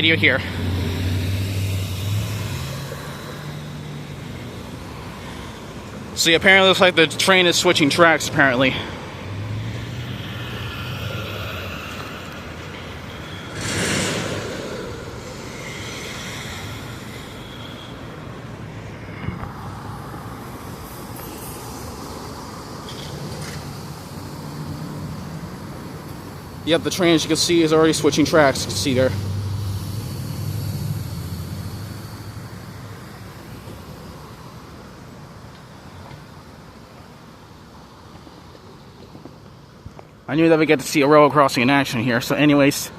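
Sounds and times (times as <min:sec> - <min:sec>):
loud rushing noise: 0:00.0 - 0:35.2
diesel train rumble: 0:00.0 - 0:37.1.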